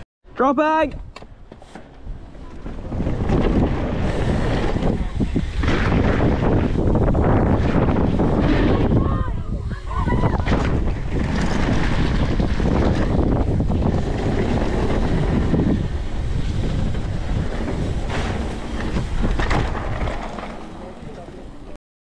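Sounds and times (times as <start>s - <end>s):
wind rushing over microphone: 0.9s - 21.6s
bike knocking and rattling: 1.0s - 9.2s, 10.4s - 21.8s
bike tyres rolling on dirt: 1.9s - 21.8s.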